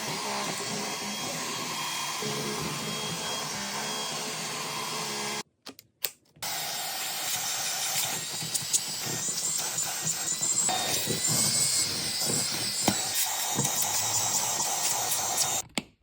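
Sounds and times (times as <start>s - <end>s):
vacuum cleaner running: 0.0s - 5.4s, 6.4s - 15.6s.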